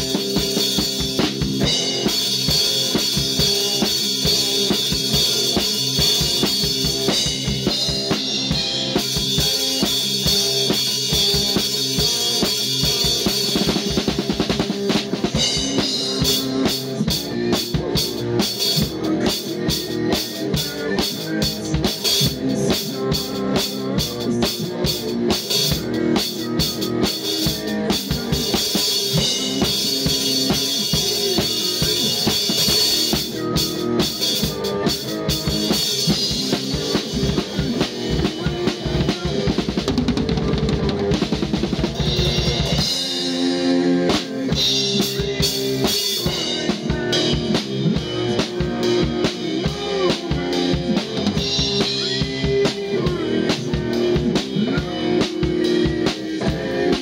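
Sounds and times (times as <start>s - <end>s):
hard rock band playing: 0.0s - 57.0s
rapid drum strokes: 0.0s - 57.0s.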